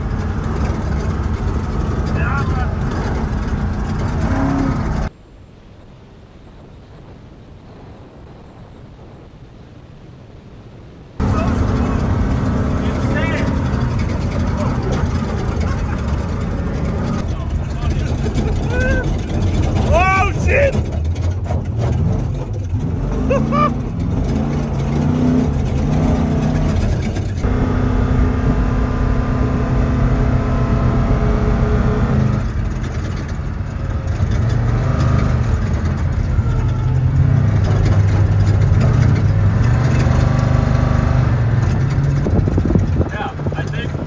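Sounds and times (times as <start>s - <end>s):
truck engine running: 0.0s - 5.1s, 11.2s - 44.0s
road and wind noise: 0.0s - 44.0s.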